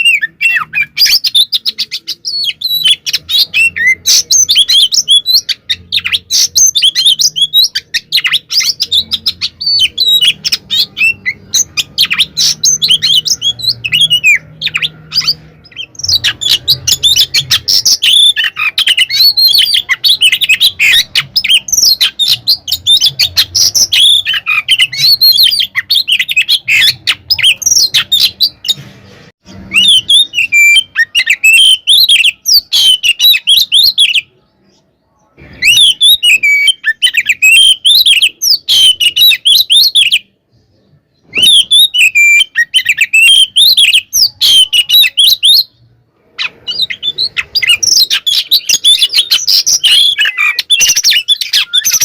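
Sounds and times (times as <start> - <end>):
magpie-robin singing: 0.0 - 28.8, 29.4 - 52.0.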